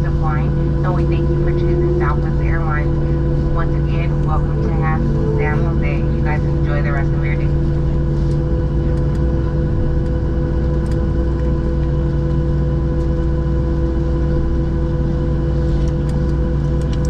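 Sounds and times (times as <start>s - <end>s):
airplane cabin hum: 0.0s - 17.0s.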